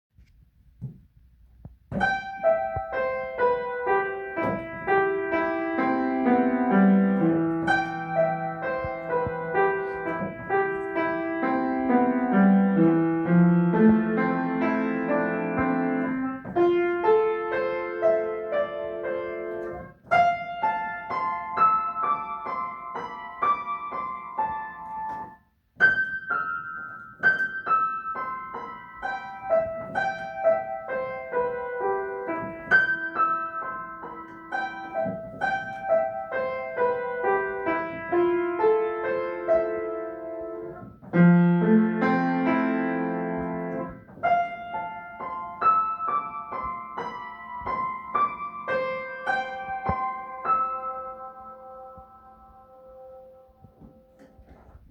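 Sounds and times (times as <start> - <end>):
gentle solo piano piece: 0.7 - 54.9.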